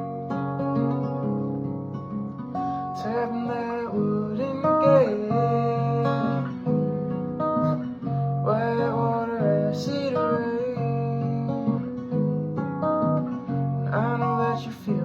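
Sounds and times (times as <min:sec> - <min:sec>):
acoustic guitar strummed: 0:00.0 - 0:15.0
person singing folk song: 0:02.4 - 0:15.0.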